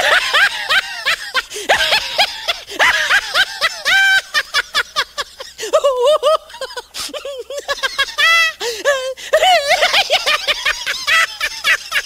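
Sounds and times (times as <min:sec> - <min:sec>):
person laughing hard: 0:00.0 - 0:12.0.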